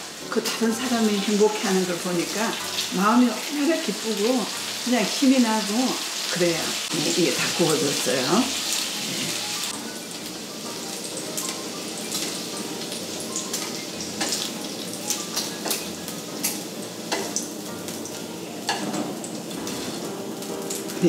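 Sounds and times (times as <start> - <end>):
bacon sizzling in a frying pan: 0.0 - 21.0.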